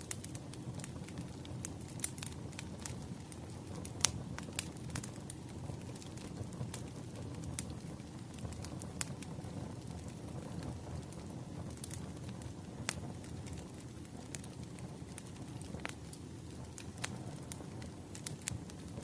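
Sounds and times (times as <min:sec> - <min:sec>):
crackling wood fire: 0:00.0 - 0:19.0.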